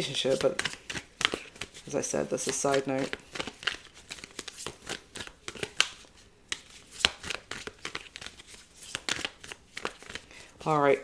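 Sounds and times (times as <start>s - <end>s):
cards being shuffled: 0.1s - 10.3s.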